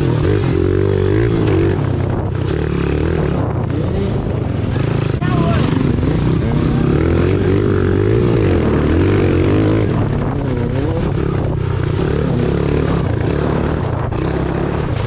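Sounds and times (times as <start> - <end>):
dirt bike engine revving: 0.0 - 15.0
wind noise: 0.0 - 15.0.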